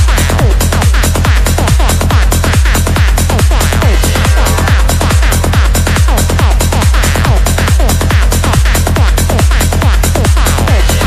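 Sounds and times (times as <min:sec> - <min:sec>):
deep kick drum: 0:00.0 - 0:11.0
electronic dance music: 0:00.0 - 0:11.0.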